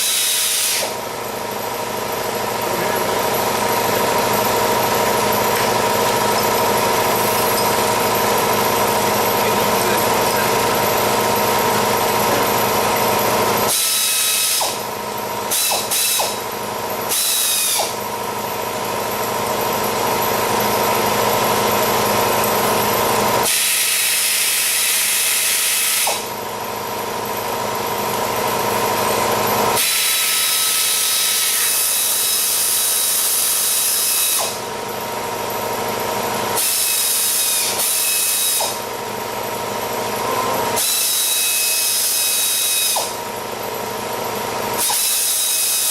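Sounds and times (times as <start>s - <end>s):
power tools running: 0.0s - 45.9s.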